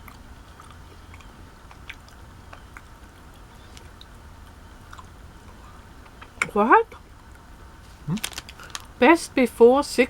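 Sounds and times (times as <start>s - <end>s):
chewing chocolate: 0.0s - 6.6s, 7.3s - 9.0s
low steady hum: 0.0s - 10.0s.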